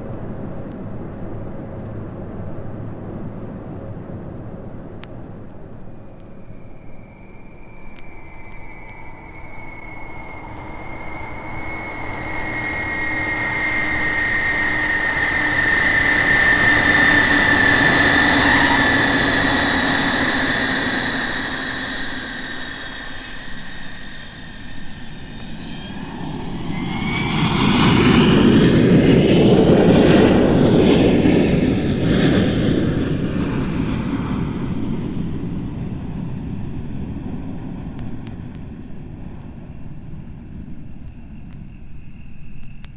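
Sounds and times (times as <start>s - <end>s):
deep jet engine rush: 0.0s - 42.9s
jet engine high whine: 0.0s - 42.9s.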